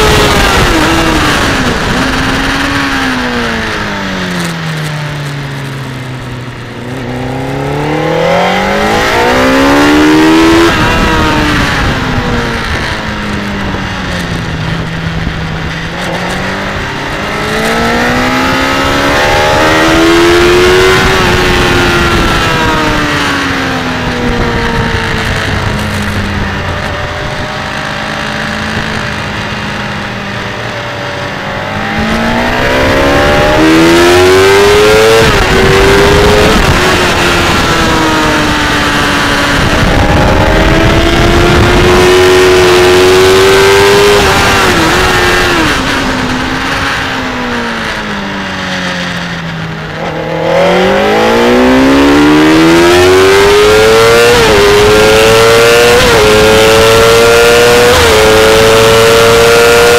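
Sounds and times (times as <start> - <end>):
wind rush: 0.0 - 4.3, 6.3 - 59.9
motorcycle engine at racing speed: 0.0 - 59.9.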